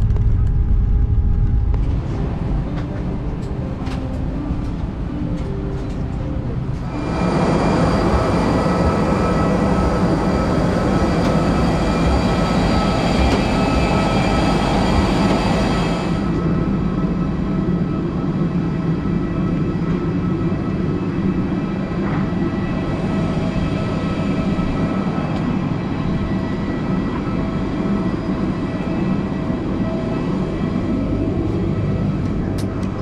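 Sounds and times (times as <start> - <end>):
jet engine rush and whine: 0.0 - 33.0
low cabin rumble: 0.0 - 33.0.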